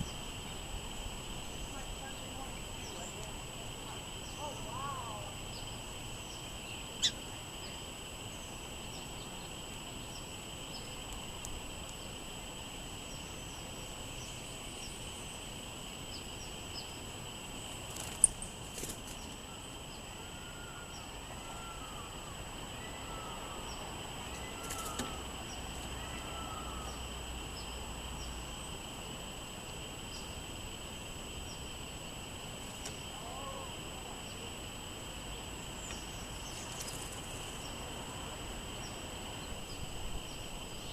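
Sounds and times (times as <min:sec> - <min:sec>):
background hiss: 0:00.0 - 0:40.9
songbirds chirping: 0:00.0 - 0:40.9.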